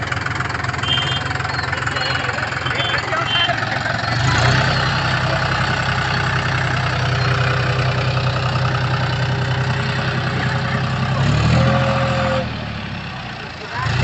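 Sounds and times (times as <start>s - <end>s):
diesel tractor engines running: 0.0s - 14.0s.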